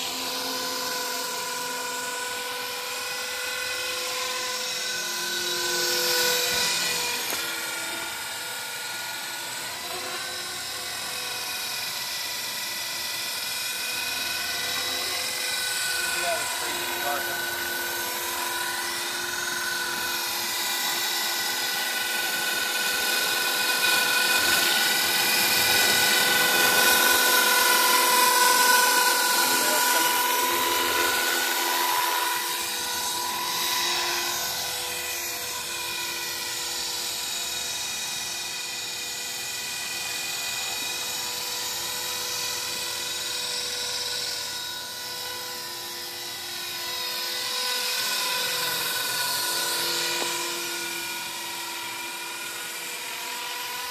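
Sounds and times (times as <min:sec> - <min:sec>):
rc helicopter high whine: 0:00.0 - 0:53.9.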